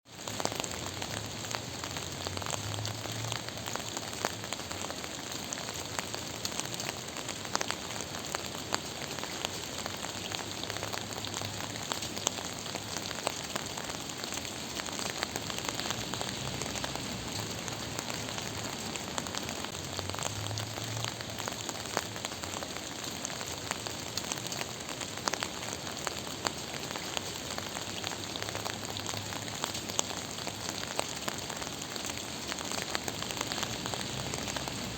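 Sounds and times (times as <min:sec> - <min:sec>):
gentle rain pattering: 0:00.0 - 0:34.9.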